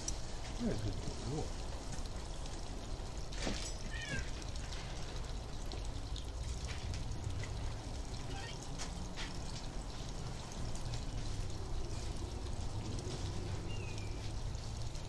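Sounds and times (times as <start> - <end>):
distant lawn engines rumbling: 0.0 - 15.0.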